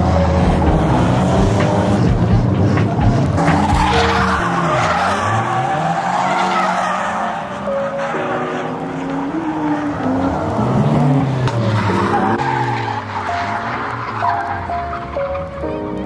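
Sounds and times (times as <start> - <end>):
car engine at high revs: 0.0 - 15.1
tyres skidding and squealing: 0.0 - 16.0.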